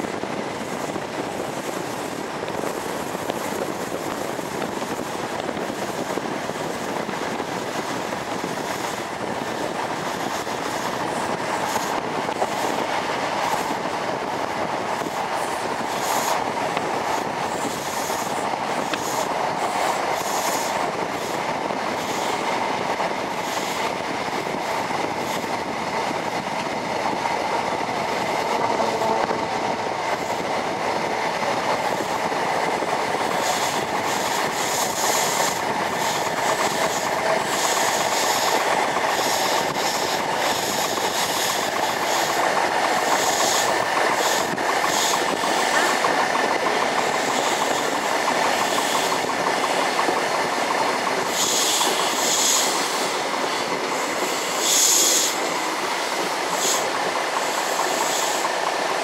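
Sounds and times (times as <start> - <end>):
rushing wind: 0.0 - 59.0
train wheels rumbling on rails: 0.0 - 59.0
wheels clicking over track: 0.2 - 59.0.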